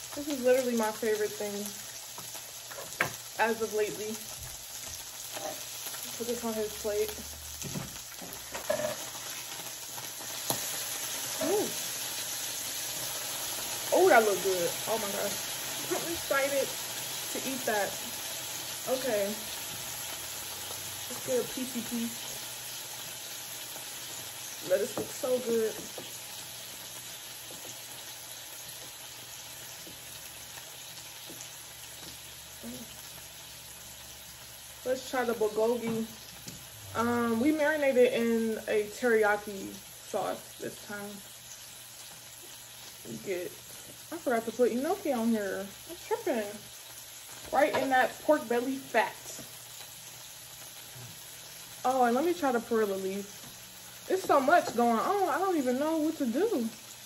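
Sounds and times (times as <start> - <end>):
meat sizzling on griddle: 0.0 - 57.0.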